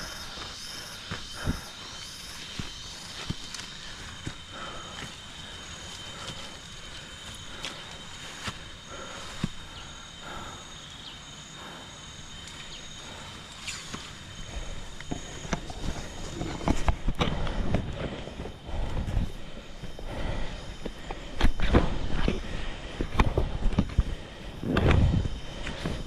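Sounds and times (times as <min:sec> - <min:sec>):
pulsing high insect note: 0:00.0 - 0:22.8
insects buzzing: 0:00.0 - 0:26.0.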